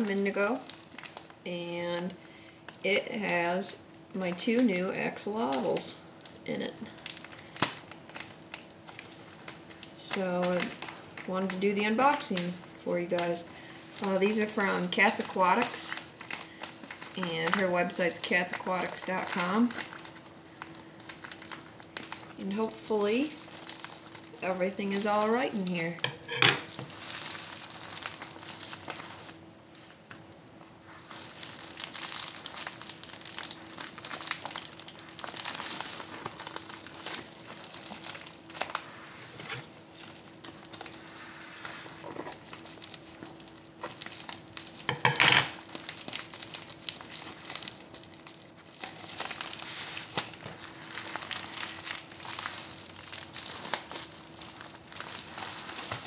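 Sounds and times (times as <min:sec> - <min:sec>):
faint steady hum: 0:00.0 - 0:56.0
plastic and foil crinkling: 0:00.0 - 0:56.0.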